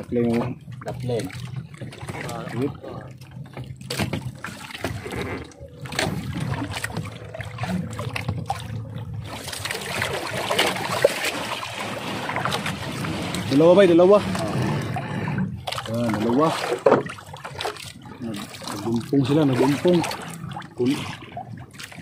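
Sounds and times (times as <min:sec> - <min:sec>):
seawater splashing and trickling: 0:00.0 - 0:22.0.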